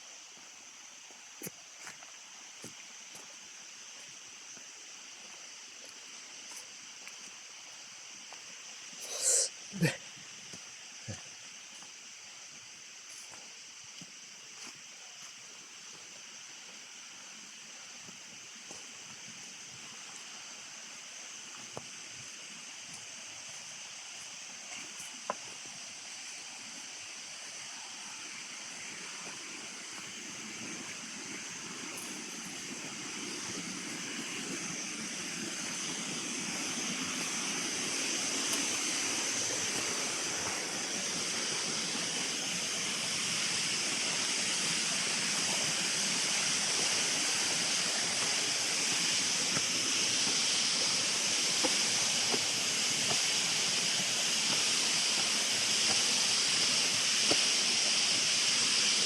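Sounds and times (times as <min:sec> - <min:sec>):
flowing water rushing: 0:00.0 - 0:59.0
high steady hiss: 0:00.0 - 0:59.0.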